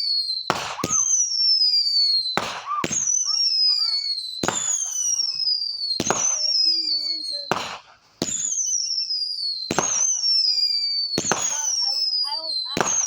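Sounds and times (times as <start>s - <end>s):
falling firework whistle: 0.0s - 13.0s
fireworks bangs: 0.0s - 13.0s.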